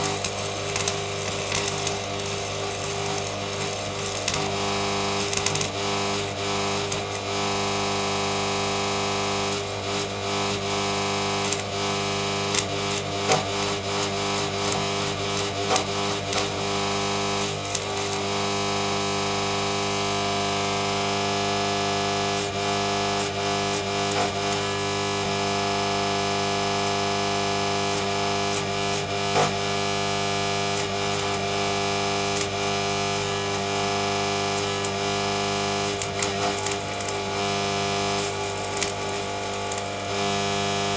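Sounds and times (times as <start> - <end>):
welding arc buzzing and crackling: 0.0 - 40.9.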